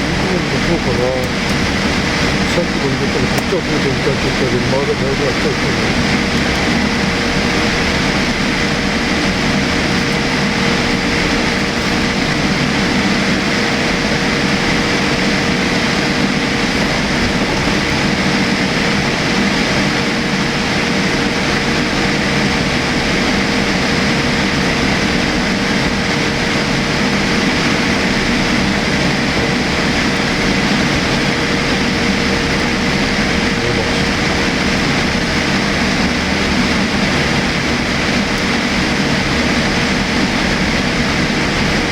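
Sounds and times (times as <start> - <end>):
aircraft cabin noise: 0.0 - 41.9.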